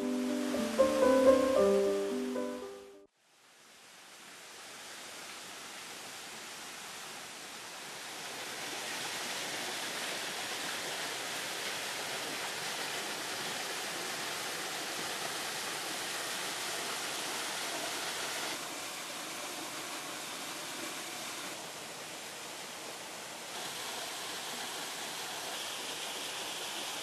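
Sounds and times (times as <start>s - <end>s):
waterfall rushing into pool: 0.0s - 27.0s.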